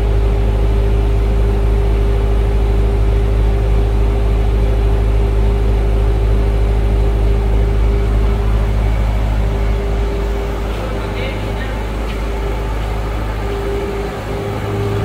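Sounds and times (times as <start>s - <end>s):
diesel generator drone: 0.0s - 15.0s
higher hum: 0.0s - 15.0s.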